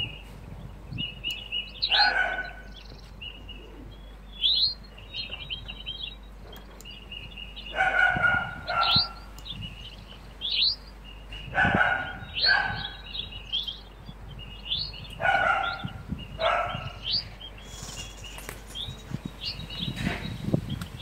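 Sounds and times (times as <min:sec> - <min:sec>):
jay fledgling begging calls: 0:01.0 - 0:21.0.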